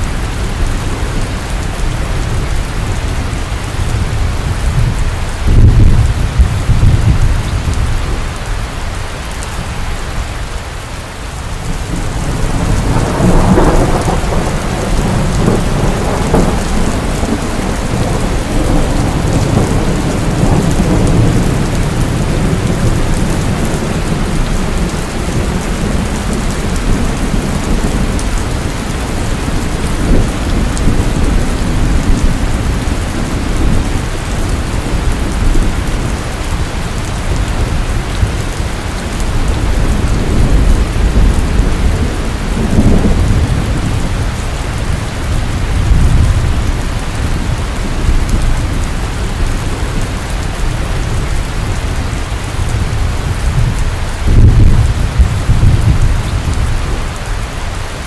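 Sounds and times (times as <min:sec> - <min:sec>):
rolling thunder: 0:00.0 - 0:08.4, 0:11.6 - 0:57.2
rain falling: 0:00.0 - 0:58.0.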